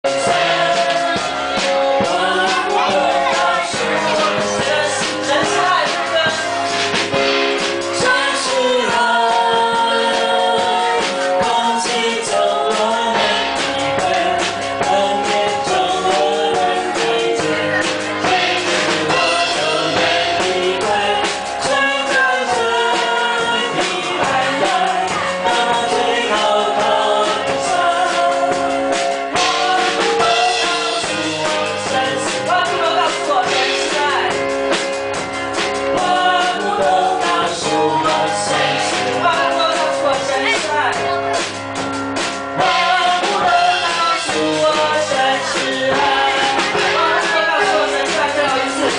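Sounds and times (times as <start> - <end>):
group singing worship song: 0.0 - 41.1, 42.2 - 48.9
backing music with steady beat: 0.0 - 48.9.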